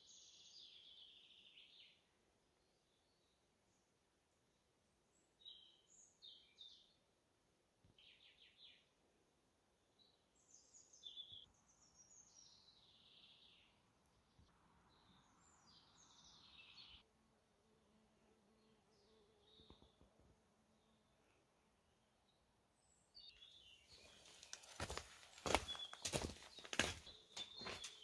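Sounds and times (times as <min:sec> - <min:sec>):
faint songbirds singing: 0:00.0 - 0:07.2, 0:07.8 - 0:17.1, 0:17.7 - 0:28.0.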